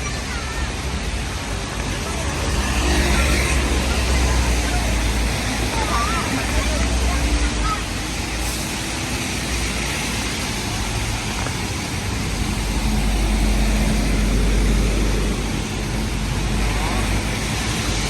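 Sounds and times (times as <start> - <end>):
steady hiss of rain: 0.0 - 18.0
vehicle engine rumble: 0.0 - 18.0
wet traffic: 0.0 - 18.0.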